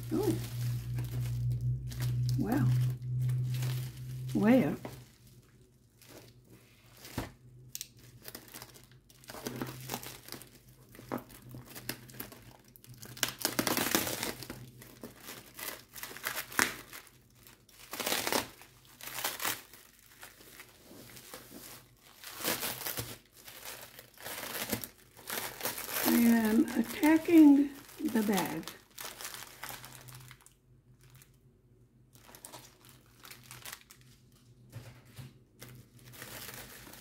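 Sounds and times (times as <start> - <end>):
packaging bag crinkling and tearing: 0.0 - 31.5, 32.1 - 37.0.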